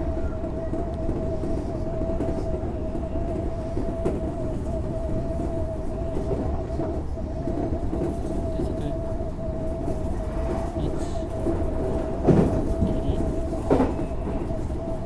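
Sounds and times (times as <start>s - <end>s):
mid-pitched train whine: 0.0s - 15.0s
wheels rumbling on rail: 0.0s - 15.0s.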